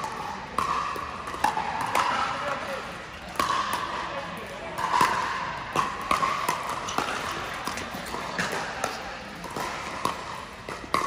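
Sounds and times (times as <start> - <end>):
ball bouncing on court: 0.0 - 11.0.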